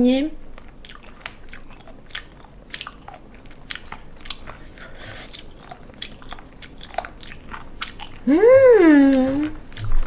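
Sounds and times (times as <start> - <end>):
crunchy chewing: 0.5 - 8.3, 9.1 - 10.0.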